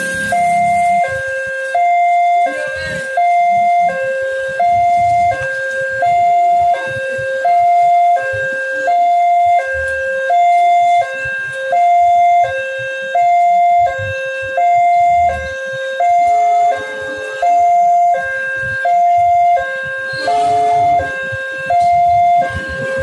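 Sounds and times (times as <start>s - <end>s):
level crossing two-tone alarm: 0.0s - 23.0s.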